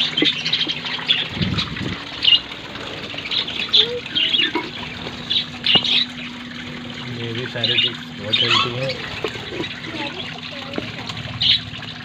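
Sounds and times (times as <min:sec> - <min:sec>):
budgerigars chirping and squawking: 0:00.0 - 0:06.3, 0:07.1 - 0:10.3, 0:11.3 - 0:11.8.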